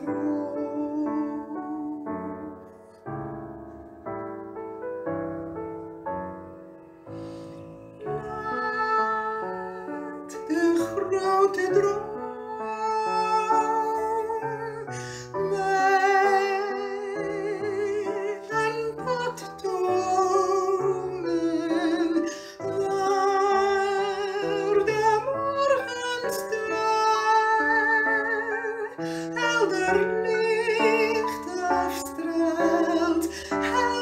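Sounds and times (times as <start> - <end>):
woman singing with vibrato: 0.0 - 2.6, 8.0 - 34.0.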